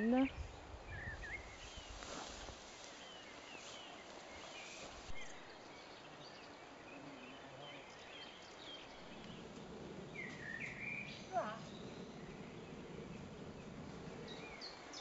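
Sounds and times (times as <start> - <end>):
faint outdoor hiss: 0.0 - 15.0
small birds chirping: 0.0 - 15.0.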